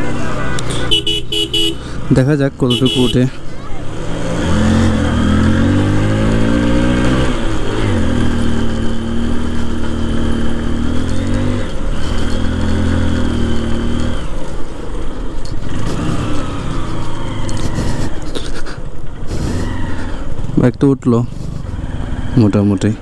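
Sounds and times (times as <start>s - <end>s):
motorcycle engine climbing a hill: 2.7s - 23.0s.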